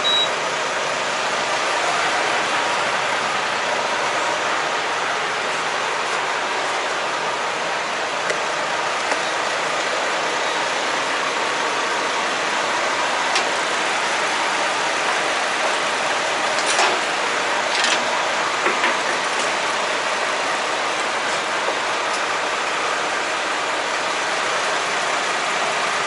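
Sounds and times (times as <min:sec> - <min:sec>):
truck road and wind noise: 0:00.0 - 0:26.0.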